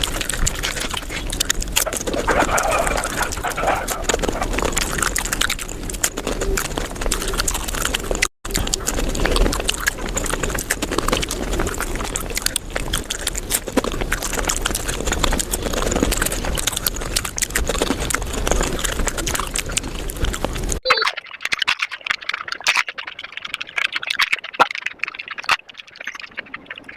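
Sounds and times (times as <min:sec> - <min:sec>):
crunching and chewing: 0:00.0 - 0:26.9.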